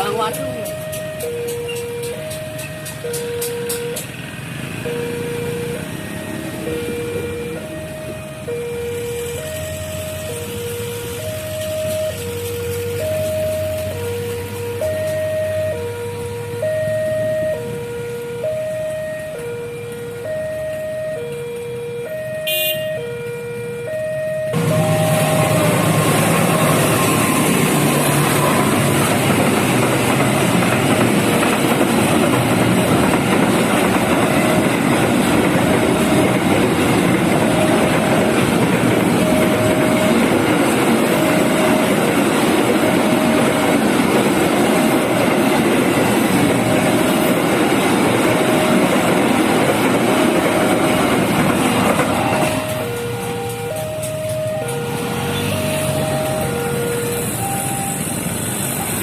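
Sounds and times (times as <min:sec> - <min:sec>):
train wheels rumbling on rails: 0:00.0 - 0:22.0, 0:24.2 - 0:59.0
two-tone crossing warning siren: 0:00.0 - 0:59.0.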